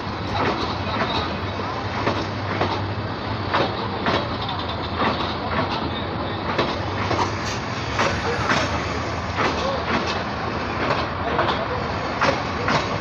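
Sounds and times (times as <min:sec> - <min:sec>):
train rumble and low hum: 0:00.0 - 0:13.0
train wheels clacking on rail joints: 0:00.0 - 0:13.0.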